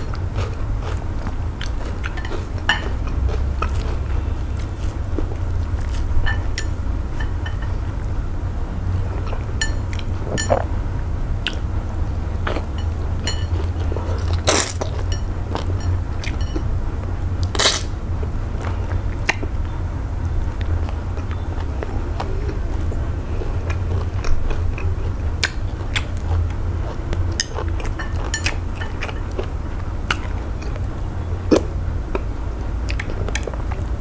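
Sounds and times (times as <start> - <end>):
chewing with wet mouth clicks: 0.0 - 7.8, 9.1 - 10.8, 11.4 - 11.7, 12.4 - 16.7, 18.6 - 33.9
steady low hum: 0.0 - 34.0.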